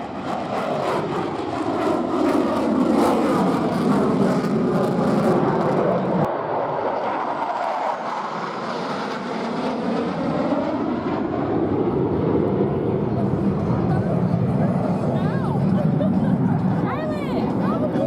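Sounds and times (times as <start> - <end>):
airplane flying past: 0.0 - 18.0.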